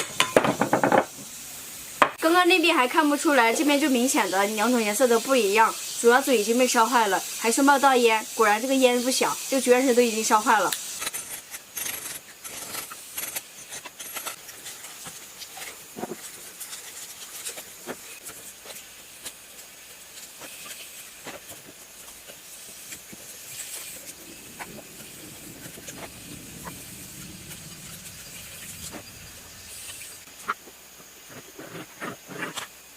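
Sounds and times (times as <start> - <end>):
steady hiss: 0.0 - 32.9.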